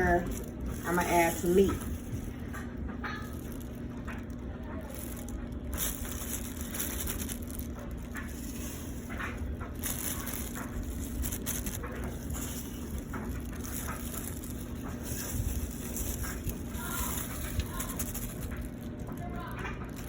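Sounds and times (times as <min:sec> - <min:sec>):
food clicks and rustles: 0:00.0 - 0:20.0
low background hum: 0:00.0 - 0:20.0.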